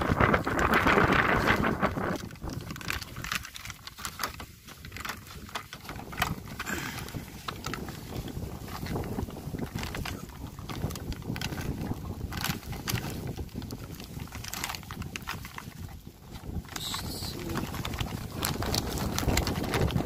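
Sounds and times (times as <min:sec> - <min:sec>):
rustling: 0:00.0 - 0:20.0
wind noise: 0:00.0 - 0:20.0.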